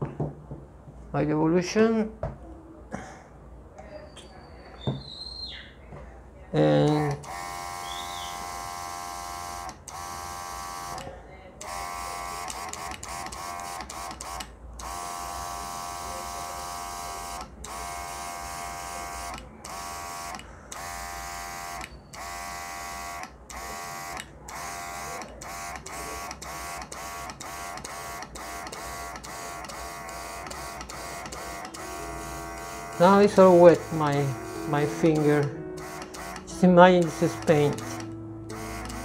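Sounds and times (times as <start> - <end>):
airbrush compressor motor whining: 6.9 - 11.0, 11.6 - 39.0.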